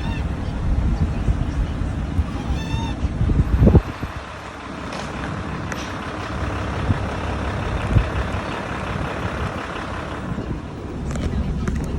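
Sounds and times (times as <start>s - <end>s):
vehicle engine rumbling: 0.0s - 11.9s.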